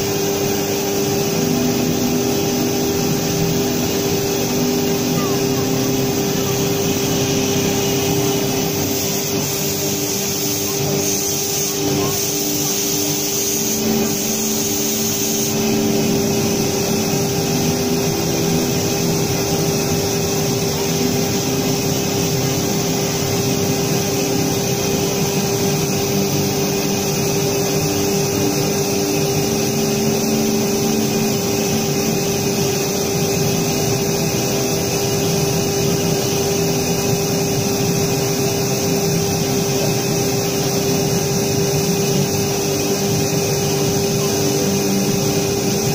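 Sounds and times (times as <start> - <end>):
cutting hiss: 0.0 - 45.9
router spindle whine: 0.0 - 45.9.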